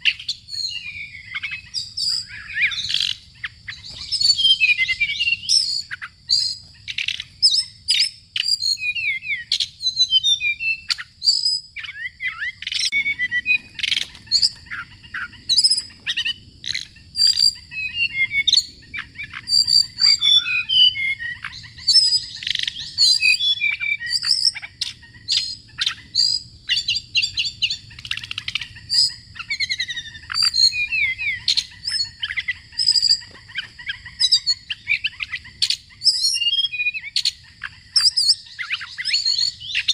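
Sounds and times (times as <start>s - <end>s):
bird song: 0.0s - 39.9s.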